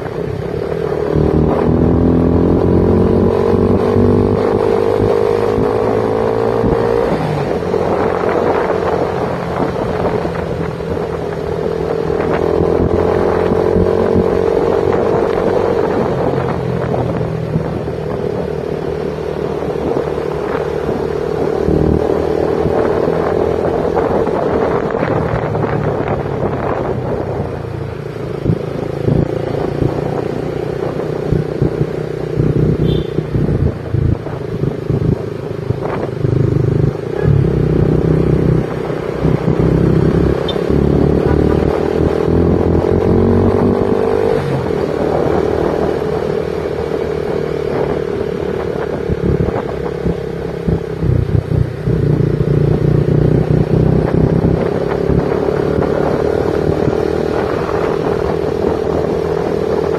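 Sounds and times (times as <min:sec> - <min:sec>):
motorcycle engine running: 0:00.0 - 0:59.9
road rumble: 0:00.0 - 0:59.9.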